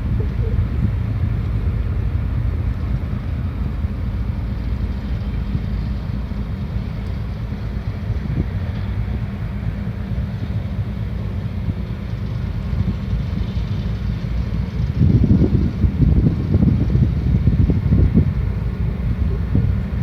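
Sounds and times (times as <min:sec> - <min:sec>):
ship engines low rumble: 0:00.0 - 0:20.0
wind buffeting microphone: 0:00.0 - 0:20.0.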